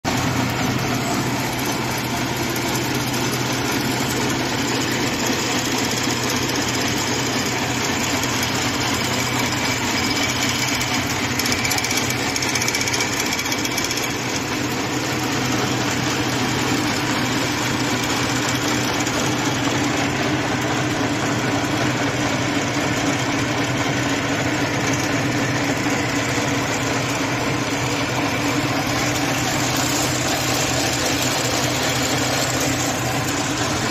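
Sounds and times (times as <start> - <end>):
machine hum: 0.1 - 33.9.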